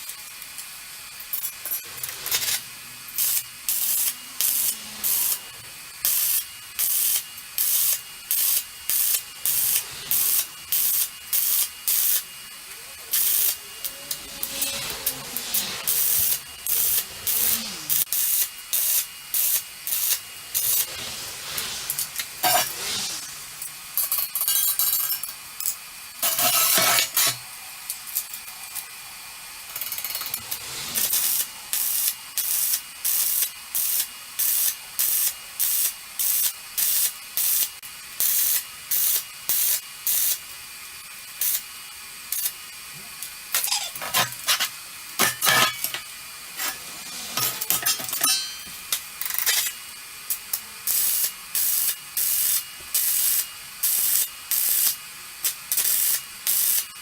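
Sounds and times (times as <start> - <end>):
welder arc crackling: 0.0 - 24.5, 26.0 - 40.5, 41.2 - 57.0.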